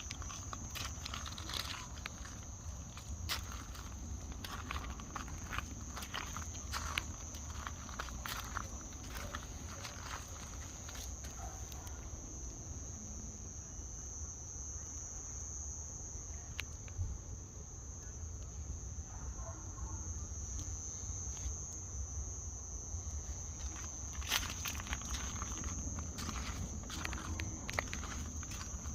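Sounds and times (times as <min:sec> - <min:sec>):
insect chirring: 0:00.0 - 0:28.9.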